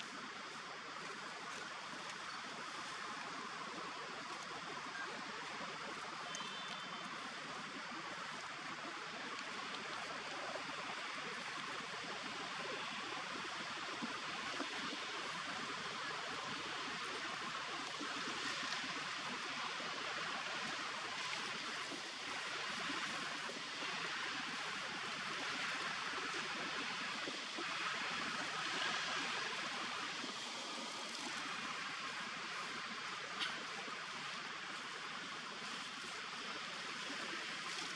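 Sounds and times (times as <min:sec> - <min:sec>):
steady outdoor hiss: 0:00.0 - 0:37.9.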